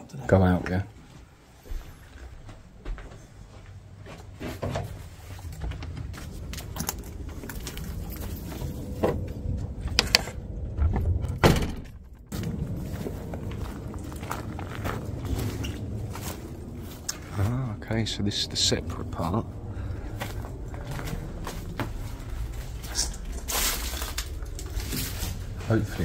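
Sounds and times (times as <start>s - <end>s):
footsteps: 0.9s - 26.0s.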